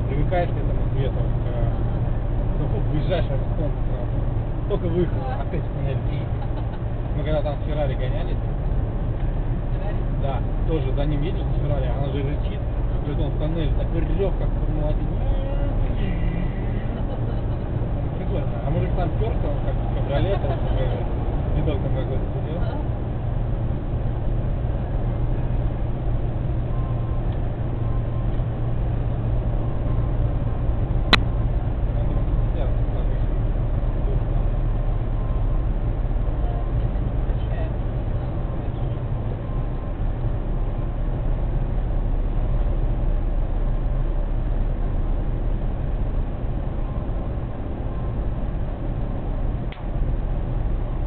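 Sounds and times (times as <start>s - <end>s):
car interior engine and road rumble: 0.0s - 51.0s.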